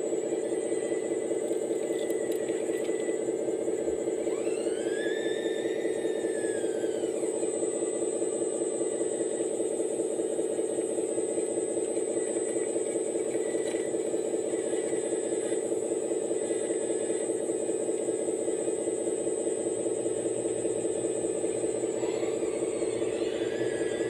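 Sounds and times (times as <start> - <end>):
hydraulic pump humming: 0.0 - 24.0.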